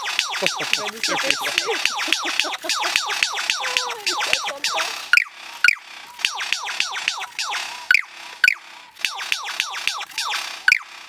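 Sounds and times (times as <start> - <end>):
bird calling squeaky notes: 0.0 - 10.8.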